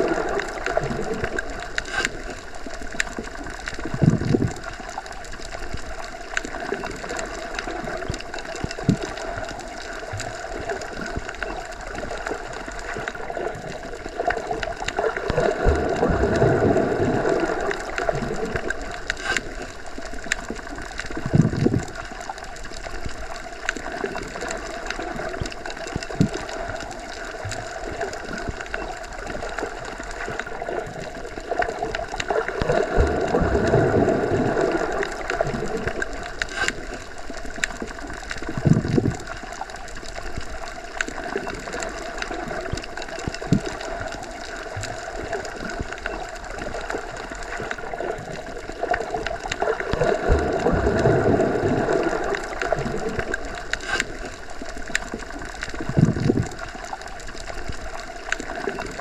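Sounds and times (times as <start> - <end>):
small clicks and pops: 0.0 - 59.0
underwater water rush: 0.0 - 59.0.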